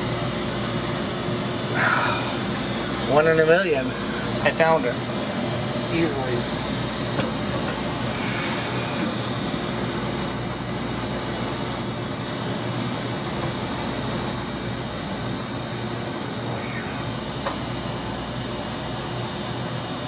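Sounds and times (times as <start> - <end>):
constant low hum: 0.0 - 20.0
laundromat machinery roar: 0.0 - 20.0.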